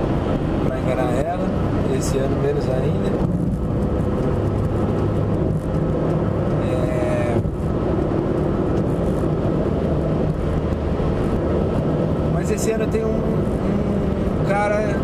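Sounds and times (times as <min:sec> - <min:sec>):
car engine hum: 0:00.0 - 0:15.0
tyre and road noise: 0:00.0 - 0:15.0.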